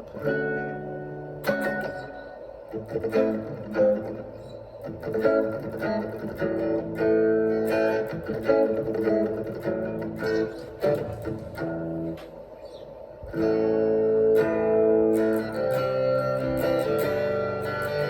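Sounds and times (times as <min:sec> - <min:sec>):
guitar notes and chords: 0:00.0 - 0:18.0.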